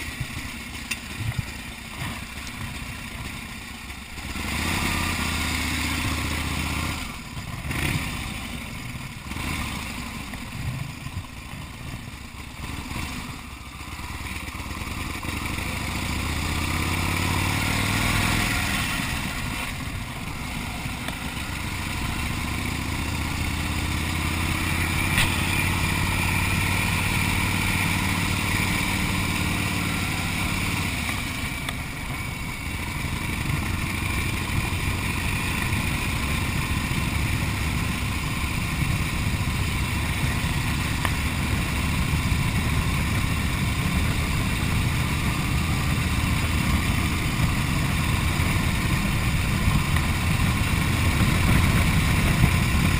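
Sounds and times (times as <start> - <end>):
motorcycle engine running: 0.0 - 52.9
wind and road rush: 0.0 - 52.9.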